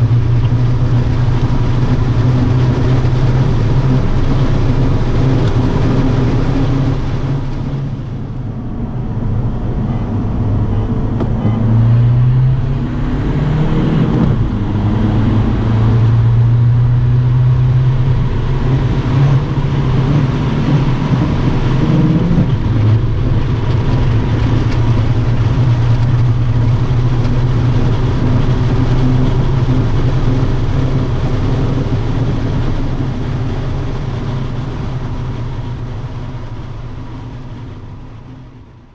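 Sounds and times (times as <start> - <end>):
car engine from inside cabin: 0.0 - 38.9
road noise: 0.0 - 38.9.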